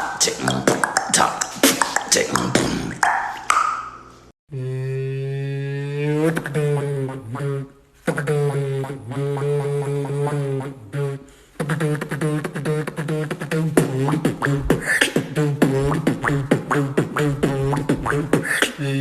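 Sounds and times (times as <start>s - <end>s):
beatboxing humming and mouth clicks: 0.0s - 3.8s, 4.5s - 19.0s.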